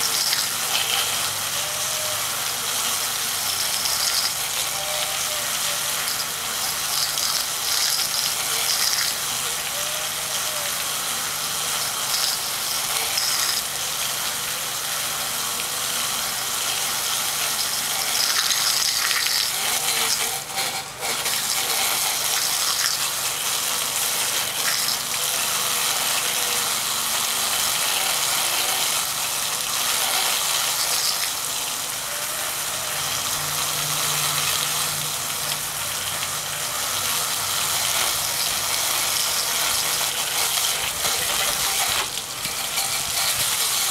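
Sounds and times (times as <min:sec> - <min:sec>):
water jets spraying on fan: 0:00.0 - 0:43.9.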